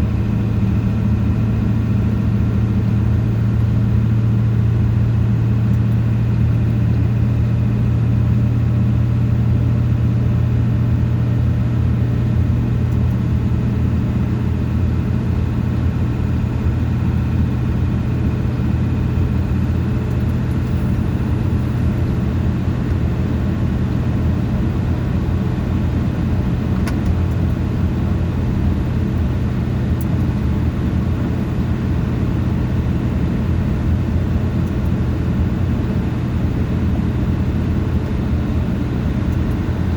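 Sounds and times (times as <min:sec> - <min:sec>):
road noise: 0:00.0 - 0:39.9
vehicle engine hum: 0:00.0 - 0:39.9.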